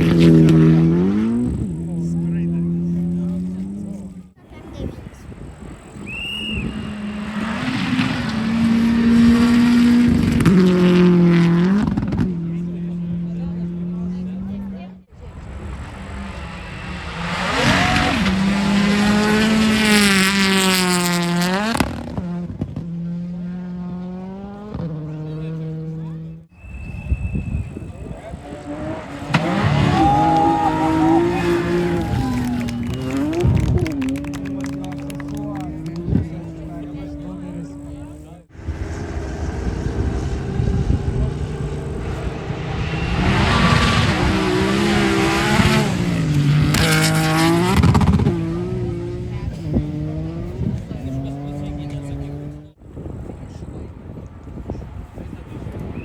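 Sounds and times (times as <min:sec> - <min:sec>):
rally car engine revving: 0:00.0 - 0:26.5, 0:27.2 - 0:56.0
engine crackles: 0:00.0 - 0:26.6, 0:27.2 - 0:56.0.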